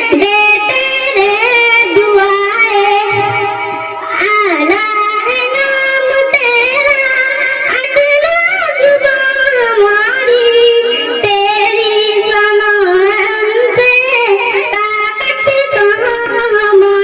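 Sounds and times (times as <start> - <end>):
girl singing a devotional hymn: 0.0 - 17.0.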